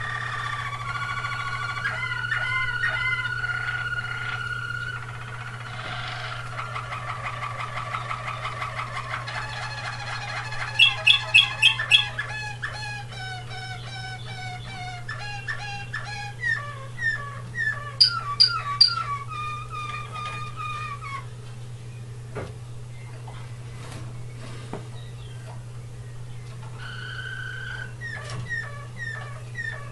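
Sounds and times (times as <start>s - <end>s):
canary singing trills: 0.0s - 22.2s, 24.9s - 29.9s
steady low hum: 0.0s - 29.9s.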